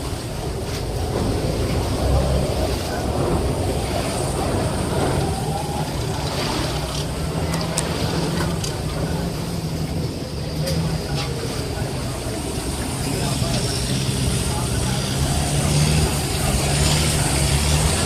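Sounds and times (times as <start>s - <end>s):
boat engine hum: 0.0s - 18.0s
rushing noise: 0.0s - 18.0s.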